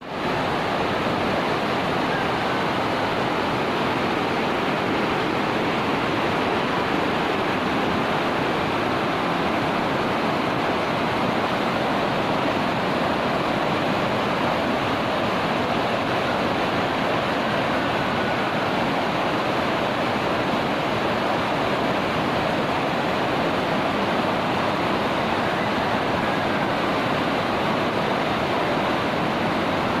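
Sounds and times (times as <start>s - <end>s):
floodwater rushing down river: 0.0s - 30.0s.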